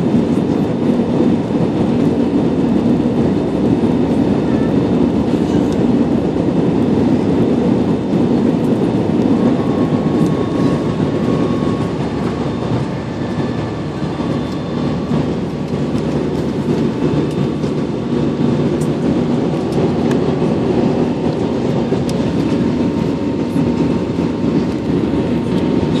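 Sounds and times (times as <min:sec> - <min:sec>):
jet engine drone and rushing air: 0:00.0 - 0:26.0.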